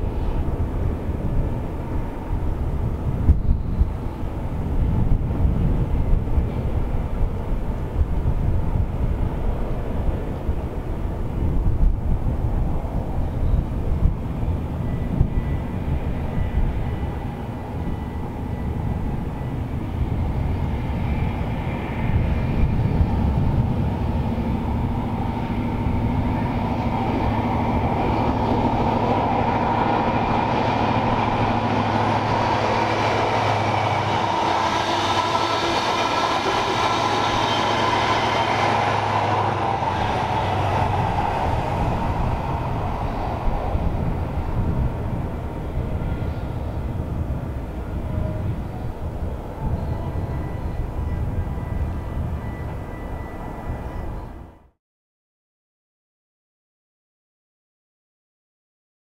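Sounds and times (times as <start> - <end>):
diesel engine hum: 0.0 - 52.9
train wheels on rails: 0.0 - 54.3.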